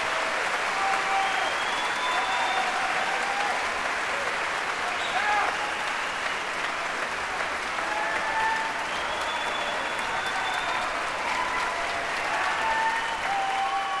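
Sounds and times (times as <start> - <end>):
audience applause: 0.0 - 14.0
people cheering: 0.0 - 14.0.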